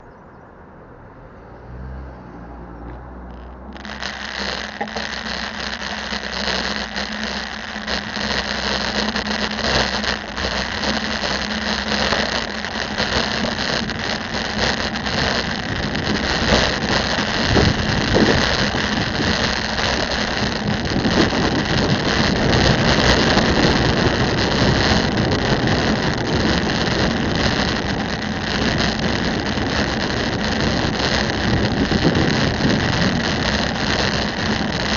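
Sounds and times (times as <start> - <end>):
low engine hum: 0.0 - 34.9
street traffic: 0.0 - 34.9.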